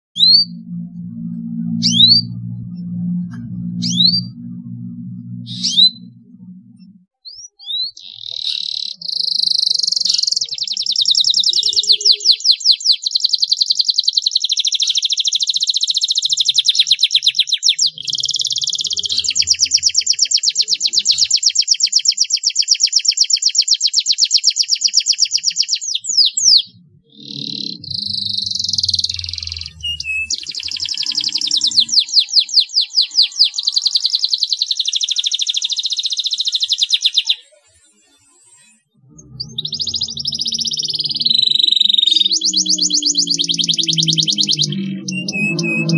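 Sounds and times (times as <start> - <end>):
canary singing trills: 0.2 - 45.9.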